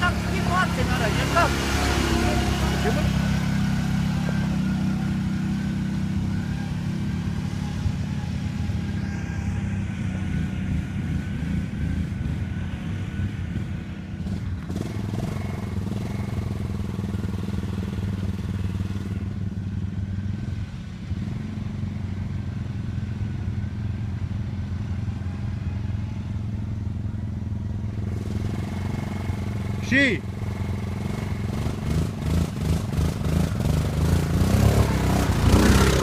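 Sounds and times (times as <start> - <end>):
quad bike engine running: 0.0 - 36.0.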